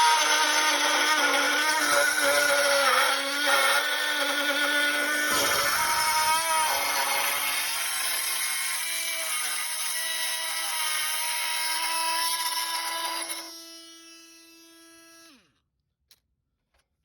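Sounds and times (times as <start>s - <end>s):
harsh metal cutting noise: 0.0s - 13.7s
power tool motor whine: 0.0s - 15.5s.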